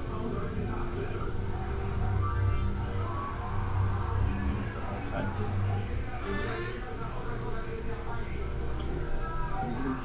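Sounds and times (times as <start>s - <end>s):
low hum: 0.0s - 10.0s
television music: 0.0s - 10.0s
television voices: 0.0s - 10.0s.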